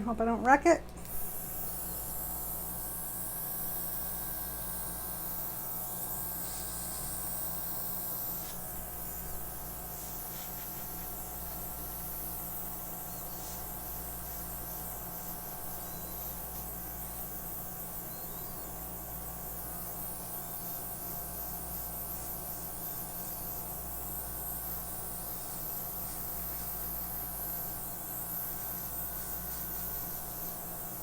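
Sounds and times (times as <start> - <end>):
compressor humming: 0.0 - 31.0
airbrush hissing air: 1.1 - 31.0.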